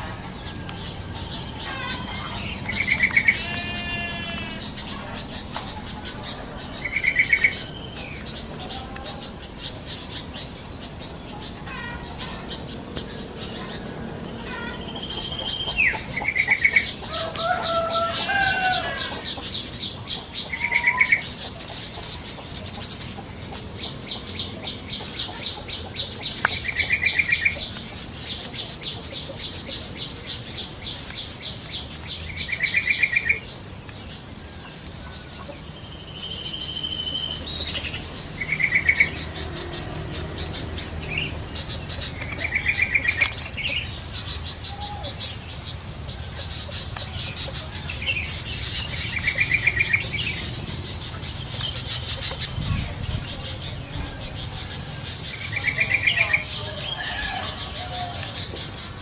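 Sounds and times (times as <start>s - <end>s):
bulbul chattering calls: 0.0s - 59.0s.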